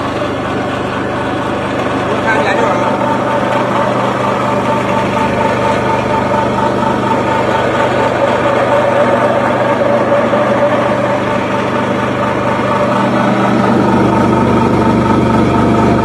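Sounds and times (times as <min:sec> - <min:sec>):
motor-driven machine humming: 0:00.0 - 0:16.0.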